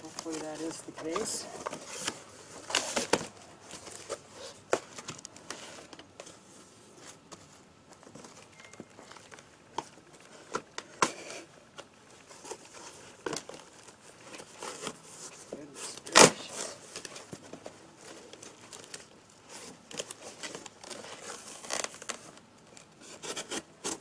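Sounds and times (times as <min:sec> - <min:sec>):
cardboard and tape rustling: 0:00.0 - 0:24.0.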